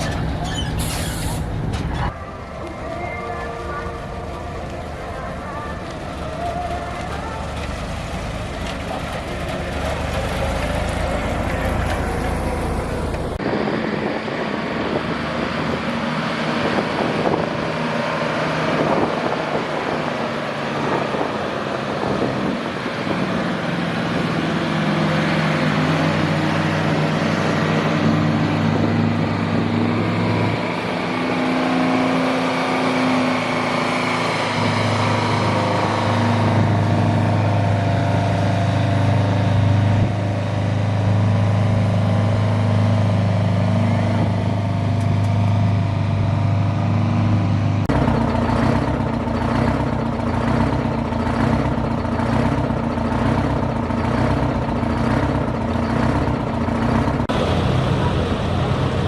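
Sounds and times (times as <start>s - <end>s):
truck engine revving: 3.8s - 59.0s.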